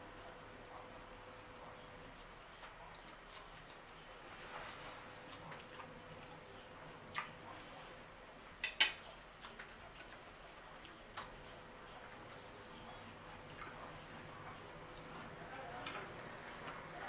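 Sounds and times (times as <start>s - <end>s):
person chewing spaghetti: 0.0s - 8.1s, 9.0s - 16.8s.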